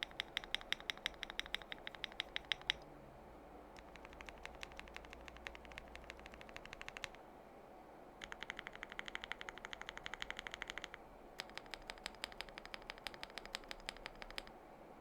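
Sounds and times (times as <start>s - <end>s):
keyboard typing: 0.0s - 2.9s, 3.8s - 7.2s, 8.2s - 14.6s.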